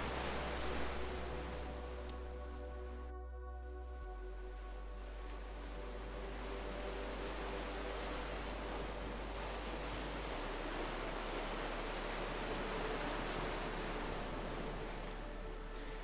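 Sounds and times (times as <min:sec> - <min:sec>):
ocean waves: 0:00.0 - 0:02.5, 0:05.0 - 0:16.0.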